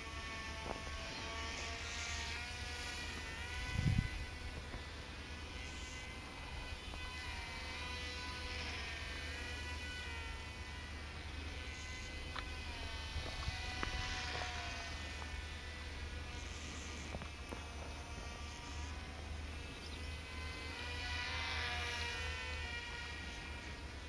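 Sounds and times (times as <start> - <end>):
toy plane propellers buzzing: 0.0 - 24.0.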